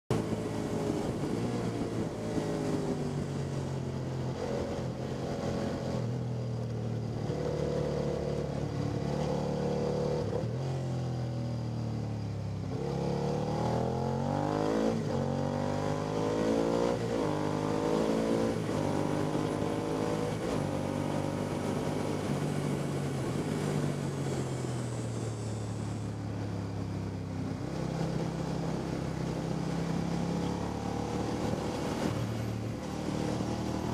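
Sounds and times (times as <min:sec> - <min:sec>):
motorcycle engine revving: 0:00.1 - 0:11.1, 0:12.5 - 0:33.9.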